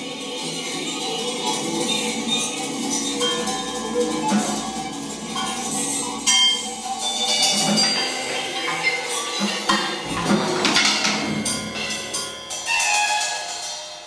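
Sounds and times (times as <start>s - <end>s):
metallic percussion clinks and scrapes: 0.4s - 14.0s.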